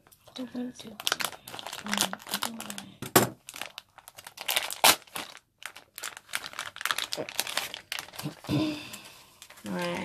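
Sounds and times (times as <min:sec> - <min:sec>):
plastic packet tearing and crinkling: 0:00.2 - 0:10.0.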